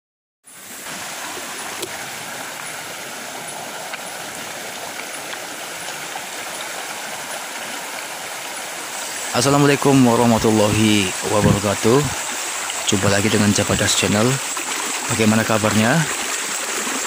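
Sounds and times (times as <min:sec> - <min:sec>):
river water rushing over rocks: 0:00.5 - 0:17.0.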